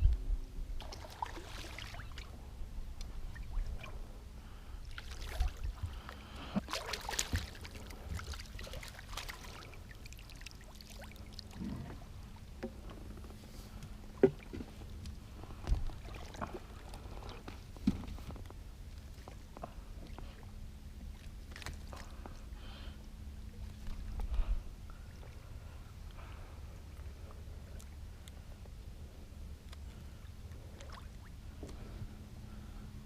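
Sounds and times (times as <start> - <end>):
faint steady hum: 0.0 - 33.0
water lapping against boat hull: 0.8 - 4.2, 4.8 - 32.9.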